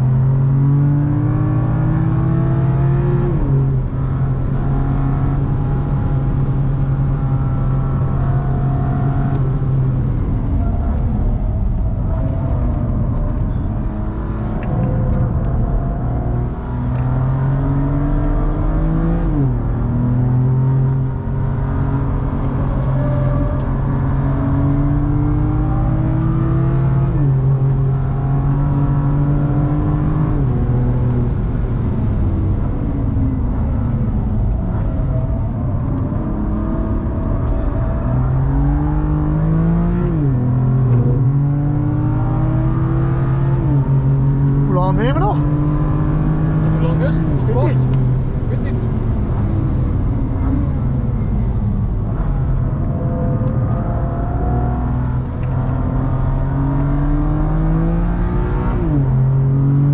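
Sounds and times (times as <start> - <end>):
car engine accelerating hard: 0.0 - 59.9
tyre and road noise: 0.0 - 59.9.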